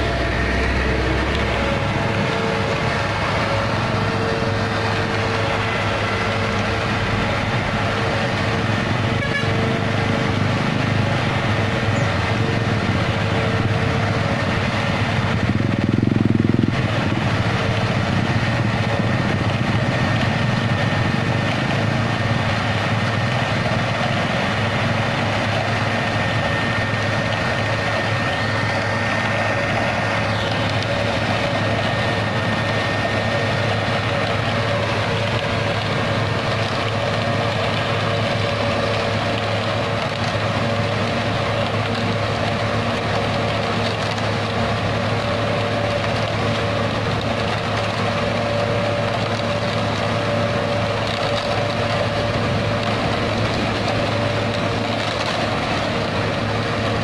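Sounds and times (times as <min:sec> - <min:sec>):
diesel truck engine humming: 0:00.0 - 0:57.0.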